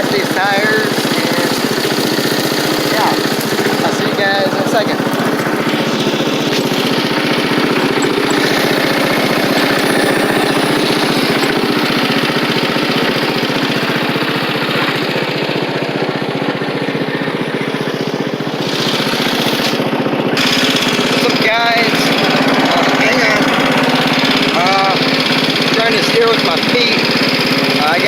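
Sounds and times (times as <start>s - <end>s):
lawn tractor engine running: 0.0s - 28.0s.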